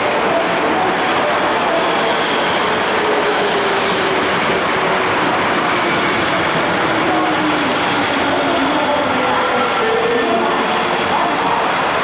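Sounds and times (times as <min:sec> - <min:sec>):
subway train wheel noise: 0:00.0 - 0:12.0.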